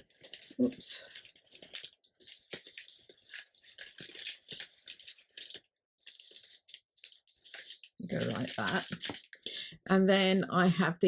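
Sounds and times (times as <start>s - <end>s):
paper and card rustling: 0.0s - 9.5s.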